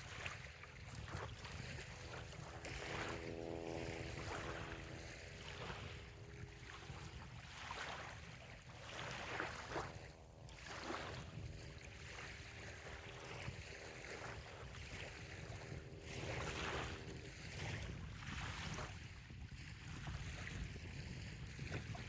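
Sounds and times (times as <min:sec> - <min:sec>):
small waves lapping on shore: 0:00.0 - 0:22.0
wind rumble on microphone: 0:00.0 - 0:22.0.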